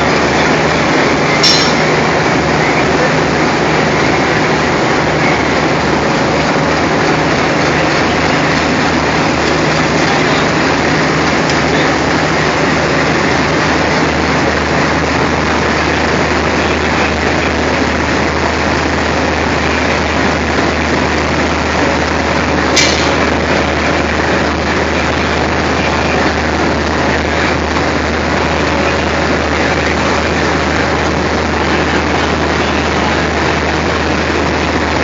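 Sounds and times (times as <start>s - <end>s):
diesel locomotive idling: 0.0s - 35.0s.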